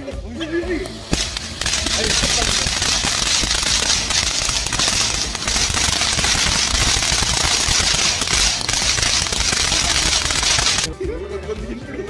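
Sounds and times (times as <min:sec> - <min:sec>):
firecrackers bursting: 0:00.8 - 0:10.9.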